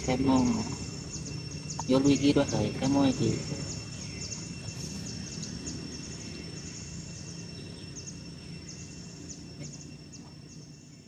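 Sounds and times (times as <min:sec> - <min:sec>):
high insect drone: 0:00.0 - 0:11.0
low background rumble: 0:00.0 - 0:11.0
small birds chirping: 0:00.0 - 0:11.0.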